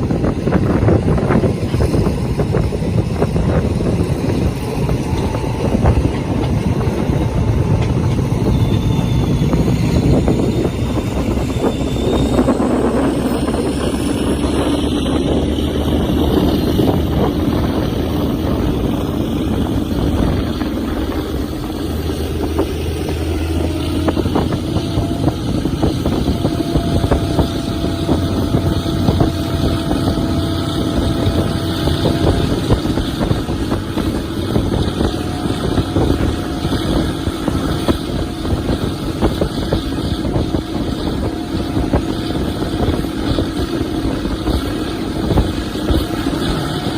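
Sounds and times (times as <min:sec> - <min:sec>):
diesel train engine drone: 0:00.0 - 0:46.9
rattling wheel and rail noise: 0:00.0 - 0:46.9.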